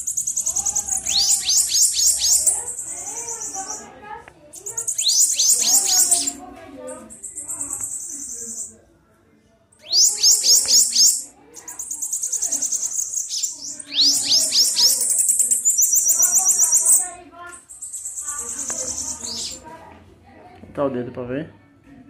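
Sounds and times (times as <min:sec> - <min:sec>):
bird singing with buzzy trill: 0:00.0 - 0:03.9, 0:04.6 - 0:08.7, 0:09.8 - 0:19.6.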